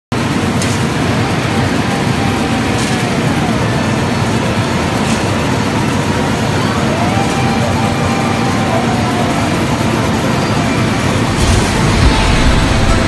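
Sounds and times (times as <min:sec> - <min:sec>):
separator machine running: 0:00.1 - 0:13.0.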